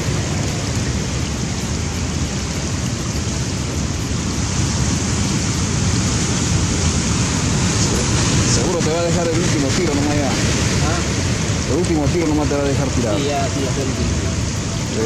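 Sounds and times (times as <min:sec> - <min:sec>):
sea surf on rocky shore: 0:00.0 - 0:15.0.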